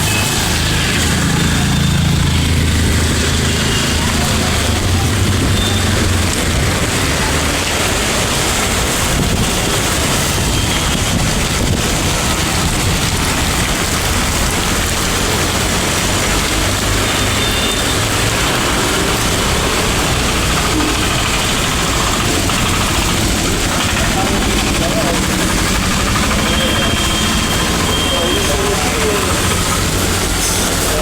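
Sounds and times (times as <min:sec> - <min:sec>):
heavy rain: 0:00.0 - 0:31.0
vehicle running: 0:00.0 - 0:31.0.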